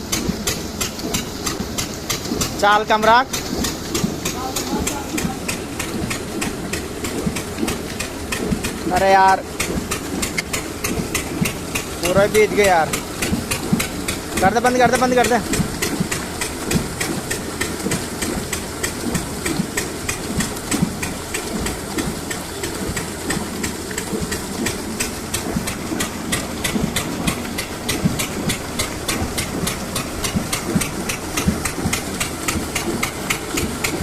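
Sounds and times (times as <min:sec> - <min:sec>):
diesel engine pumping water: 0:00.0 - 0:34.0.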